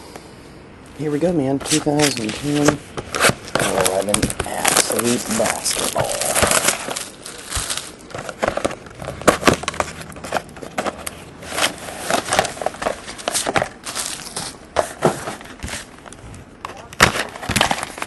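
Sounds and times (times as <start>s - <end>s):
rustling cardboard and wrapper: 1.0s - 18.0s.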